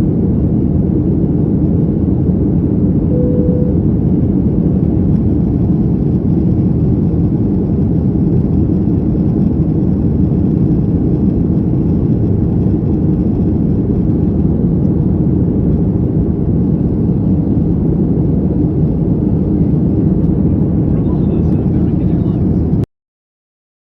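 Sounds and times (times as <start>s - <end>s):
airplane cabin rumble: 0.0s - 22.9s.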